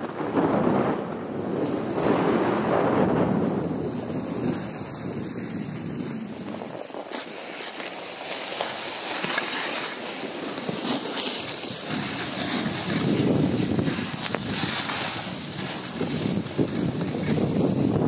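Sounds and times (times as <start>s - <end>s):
skis sliding on packed snow: 0.0s - 18.0s
wind buffeting microphone: 0.0s - 18.0s.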